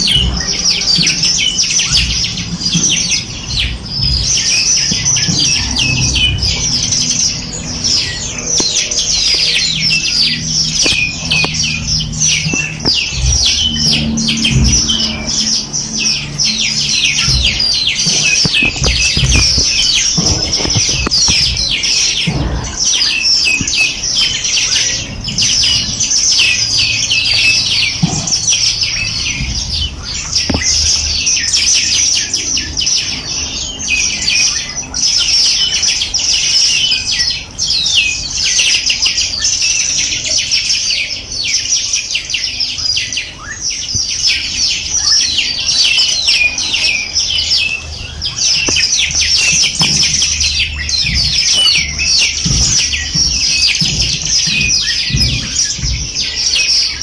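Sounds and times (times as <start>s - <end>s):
many small birds chirping: 0.0s - 57.0s.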